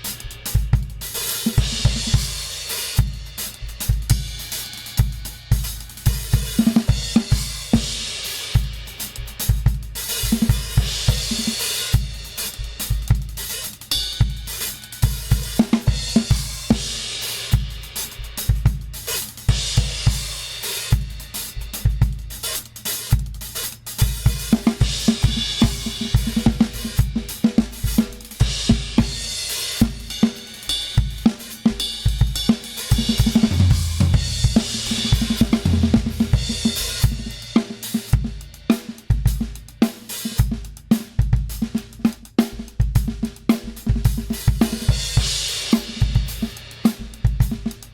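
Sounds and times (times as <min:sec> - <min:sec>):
hi-hat: 0:00.0 - 0:47.9
snare drum: 0:00.0 - 0:47.9.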